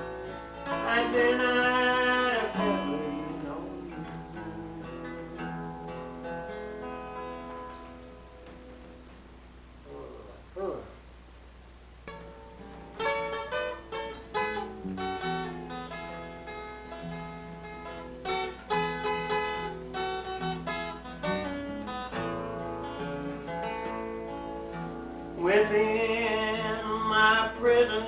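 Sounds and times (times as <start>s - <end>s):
acoustic guitar picking: 0.0s - 11.1s, 11.9s - 28.0s.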